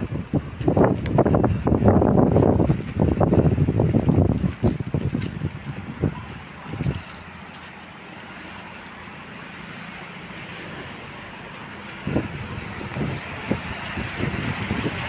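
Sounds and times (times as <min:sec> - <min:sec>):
wind buffeting microphone: 0:00.0 - 0:08.6, 0:09.6 - 0:15.0.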